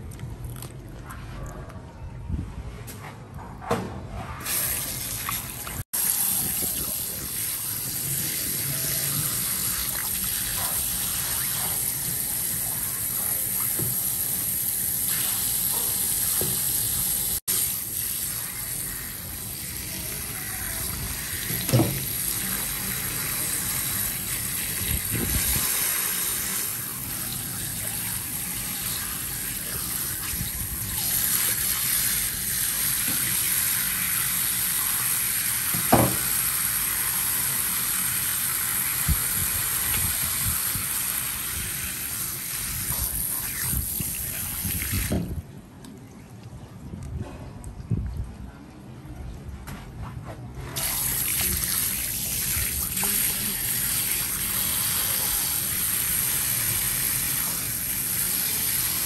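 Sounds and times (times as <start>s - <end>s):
tap water running and splashing: 4.5s - 45.4s, 50.8s - 59.0s.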